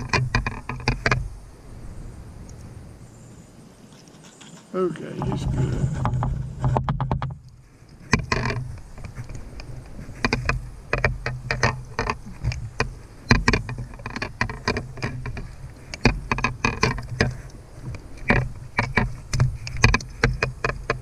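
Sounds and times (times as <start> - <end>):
knocks and clatter of gear in canoe: 0.0 - 1.4, 4.0 - 21.0
steady low hum: 0.0 - 21.0.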